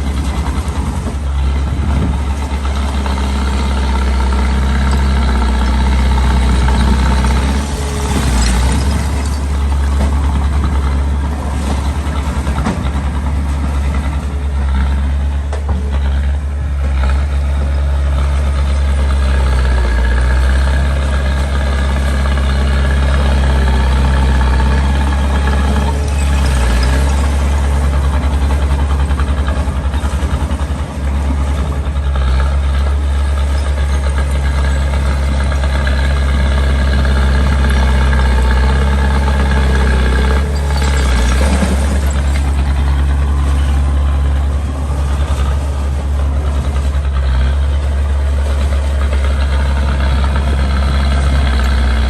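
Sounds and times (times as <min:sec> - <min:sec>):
bulldozer diesel engine droning: 0:00.0 - 0:52.0.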